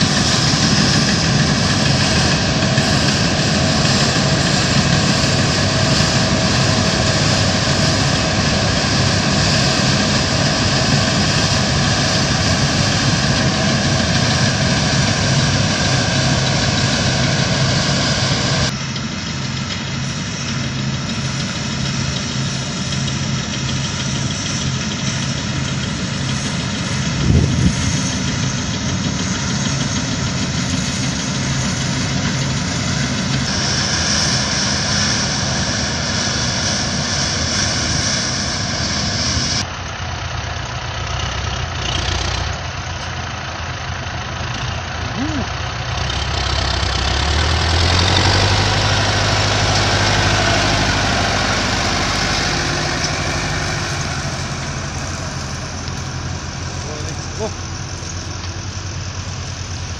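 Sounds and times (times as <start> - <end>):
louder rumble: 0.0 - 40.4, 41.7 - 59.9
combine harvester machinery hum: 0.0 - 59.9.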